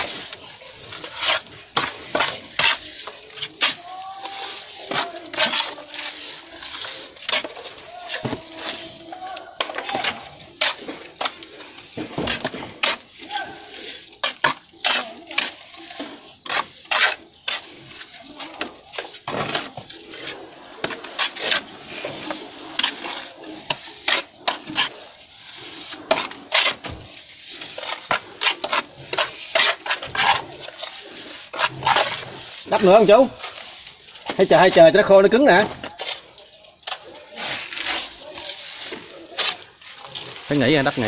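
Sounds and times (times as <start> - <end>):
trowel scraping mortar: 0.0 - 41.0.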